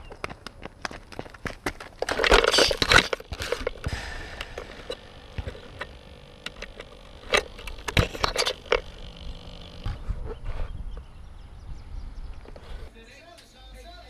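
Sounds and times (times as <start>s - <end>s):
rustling and scraping: 0.4s - 11.1s, 12.3s - 13.0s.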